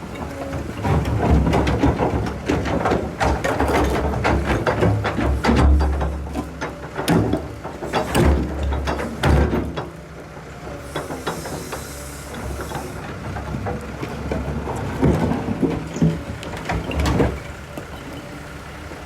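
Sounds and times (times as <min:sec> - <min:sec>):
excavator engine under load: 0:00.0 - 0:19.0
heavy knocks of dumped loads: 0:00.2 - 0:18.0.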